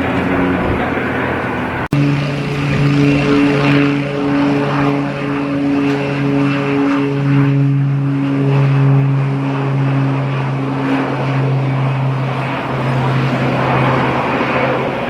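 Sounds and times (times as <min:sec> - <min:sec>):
aircraft engines humming: 0:00.0 - 0:15.0.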